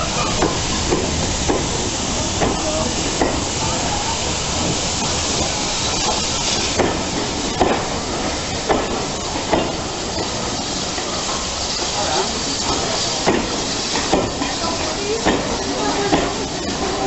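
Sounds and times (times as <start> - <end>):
steam hissing: 0.0 - 17.0
train wheels knocking: 0.0 - 17.0.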